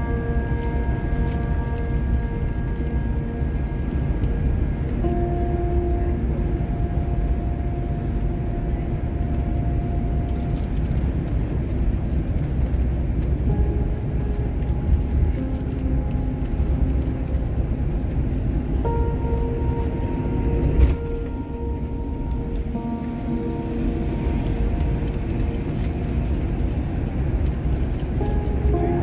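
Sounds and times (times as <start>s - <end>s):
coach engine and road rumble: 0.0s - 29.0s.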